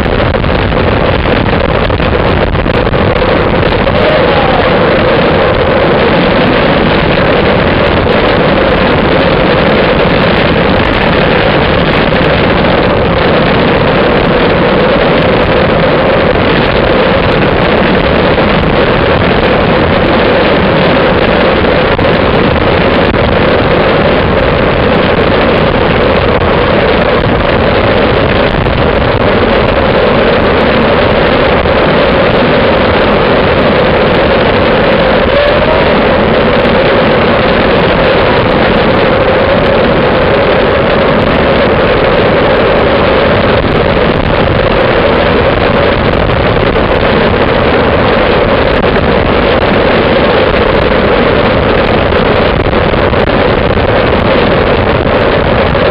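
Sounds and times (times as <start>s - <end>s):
wind rush on microphone: 0.0s - 55.9s.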